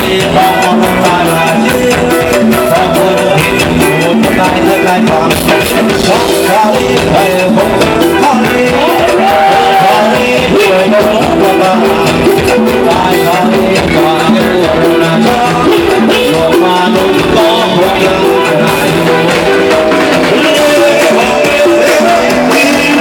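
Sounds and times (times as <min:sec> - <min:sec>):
person singing: 0:00.0 - 0:23.0
retro dance band music: 0:00.0 - 0:23.0.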